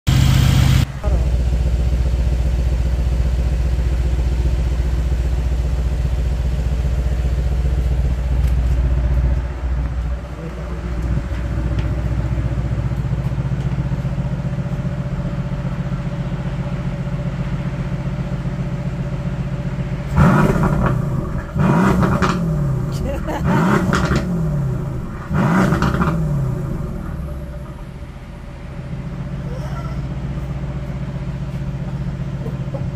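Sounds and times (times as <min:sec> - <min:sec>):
car engine idling: 0:00.1 - 0:32.9.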